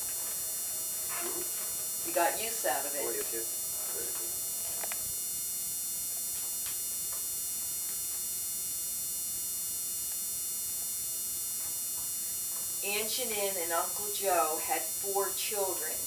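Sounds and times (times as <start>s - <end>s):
electrical hum and tape hiss: 0.0s - 16.0s.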